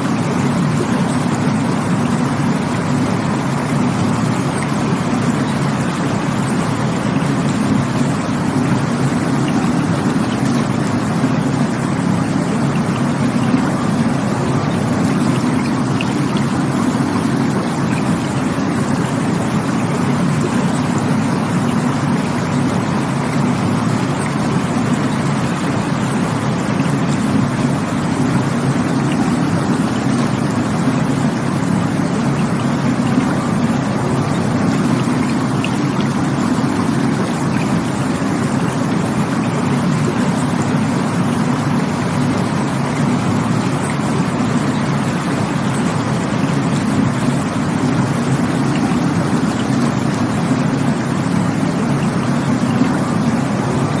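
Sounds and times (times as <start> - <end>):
flowing water roar: 0.0 - 54.0.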